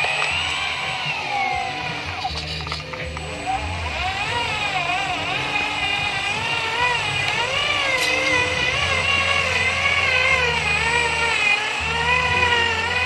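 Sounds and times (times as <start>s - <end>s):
background music: 0.0s - 13.0s
truck engine whine straining: 0.0s - 13.0s.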